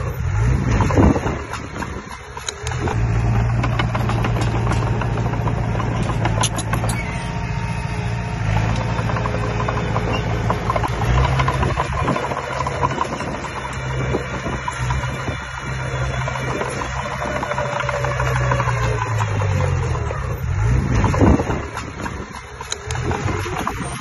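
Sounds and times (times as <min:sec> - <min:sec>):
diesel engine running under load: 0:00.0 - 0:24.0
metal clanks and knocks: 0:00.6 - 0:07.4, 0:08.4 - 0:24.0.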